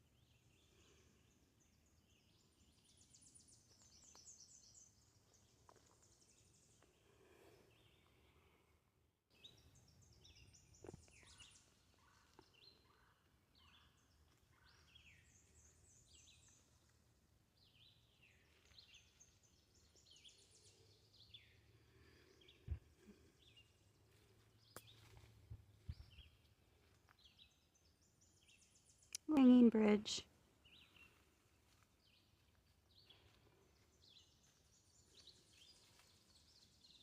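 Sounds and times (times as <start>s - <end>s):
faint songbirds chirping: 0.0s - 37.0s.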